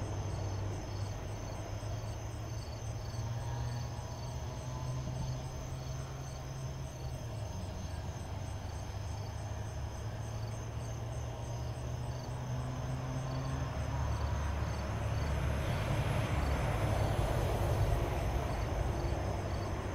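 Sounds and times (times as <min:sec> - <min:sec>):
insects chirping: 0:00.0 - 0:19.9.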